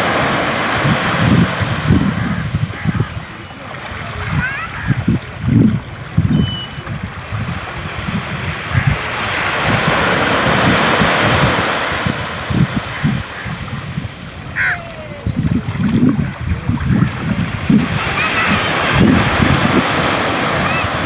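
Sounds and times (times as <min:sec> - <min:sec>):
surf washing ashore: 0:00.0 - 0:21.0
wind buffeting microphone: 0:00.0 - 0:21.0.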